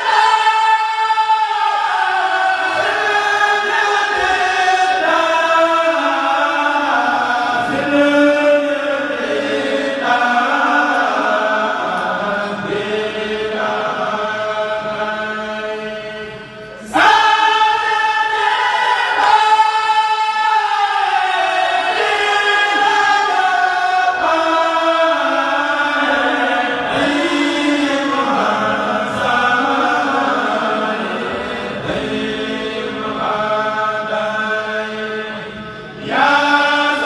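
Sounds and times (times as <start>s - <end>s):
men chanting in unison: 0.0s - 37.0s.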